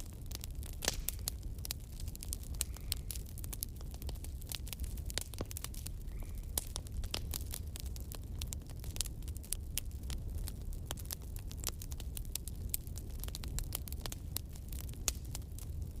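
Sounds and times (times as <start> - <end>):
fire pops and snaps: 0.0 - 16.0
low rumble of flames: 0.0 - 16.0.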